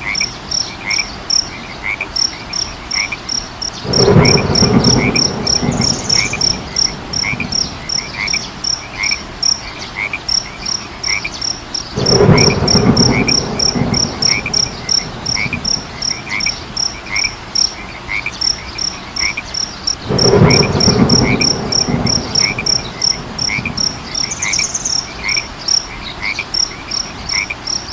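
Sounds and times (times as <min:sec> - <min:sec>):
frogs croaking: 0:00.0 - 0:27.9.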